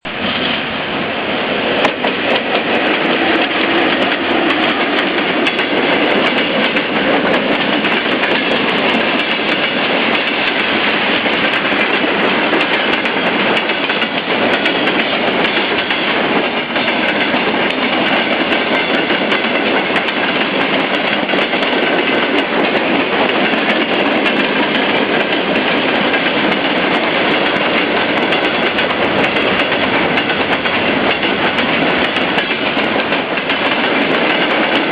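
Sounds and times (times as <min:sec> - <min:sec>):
freight train rumbling past: 0:00.0 - 0:34.9
wheels clicking over rail joints: 0:01.8 - 0:34.9.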